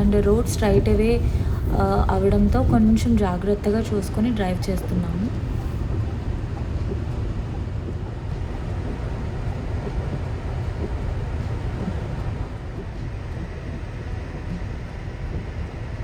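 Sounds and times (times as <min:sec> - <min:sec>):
road noise inside car: 0:00.0 - 0:16.0.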